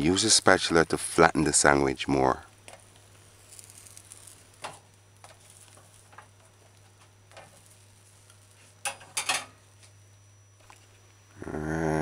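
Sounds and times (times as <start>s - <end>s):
sandwich sizzling on grill: 0.0s - 9.9s
steady low hum: 0.0s - 12.0s.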